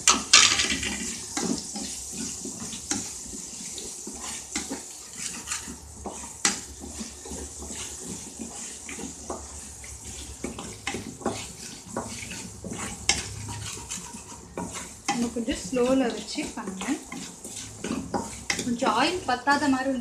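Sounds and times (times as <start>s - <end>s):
shallots sizzling in oil: 0.0s - 20.0s
spoon scraping and knocking pan: 0.0s - 20.0s.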